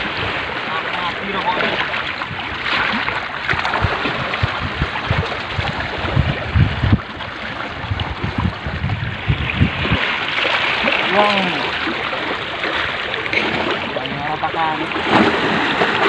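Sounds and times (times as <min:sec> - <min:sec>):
wind buffeting microphone: 0:00.0 - 0:14.4
sea water washing: 0:00.0 - 0:16.0.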